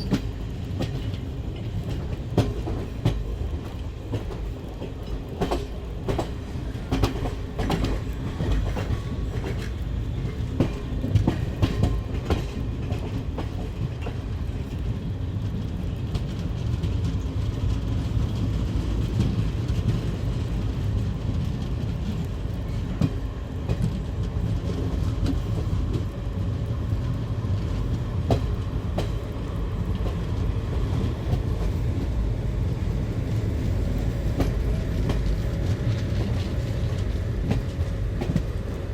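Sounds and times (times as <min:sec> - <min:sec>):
train rolling rumble: 0:00.0 - 0:38.9.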